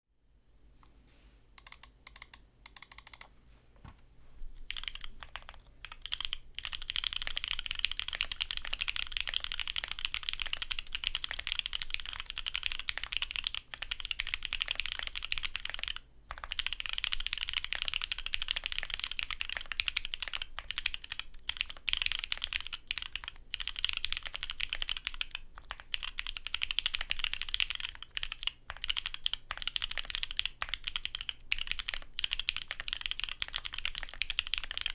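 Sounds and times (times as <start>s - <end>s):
mechanical keyboard typing: 1.6s - 3.3s, 4.6s - 34.9s.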